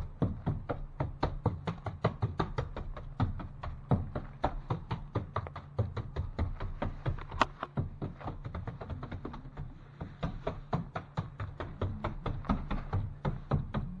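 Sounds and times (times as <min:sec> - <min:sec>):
brush tapping mud onto wall: 0:00.0 - 0:14.0
low steady hum: 0:00.0 - 0:14.0.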